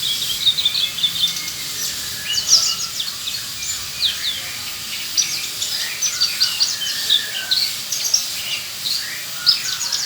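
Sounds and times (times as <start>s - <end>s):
bird chirping and trilling: 0.0s - 10.0s.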